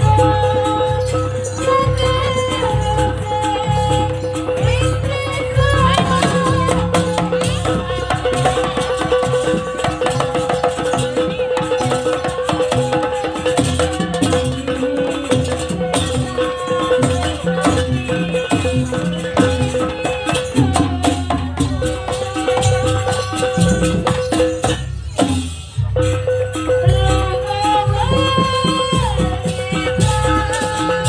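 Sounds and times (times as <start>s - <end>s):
drums: 0.0s - 31.0s
pitched metal percussion: 0.0s - 31.0s.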